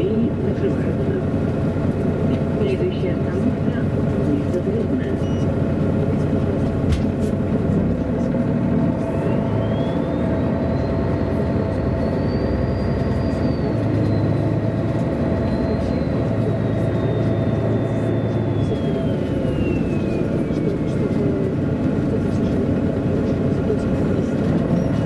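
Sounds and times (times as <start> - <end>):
bus diesel engine: 0.0 - 25.0
road rumble: 0.0 - 25.0.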